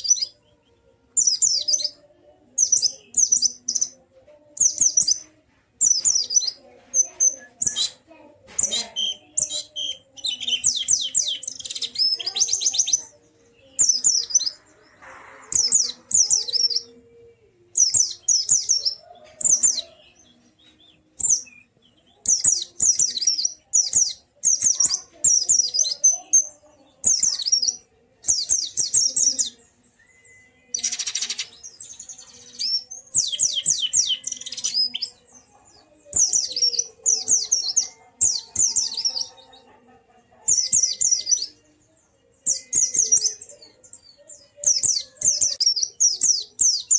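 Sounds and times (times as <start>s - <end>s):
bird twittering song: 0.0s - 39.8s, 40.5s - 46.9s.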